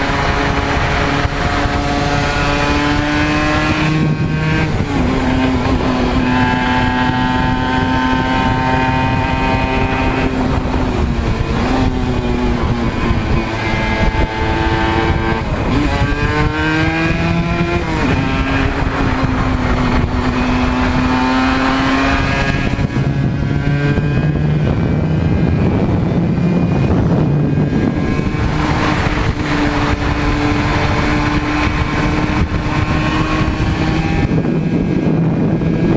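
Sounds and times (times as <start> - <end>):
two-stroke motorcycle engine revving: 0.0 - 35.9
wind noise rushing: 0.0 - 35.9.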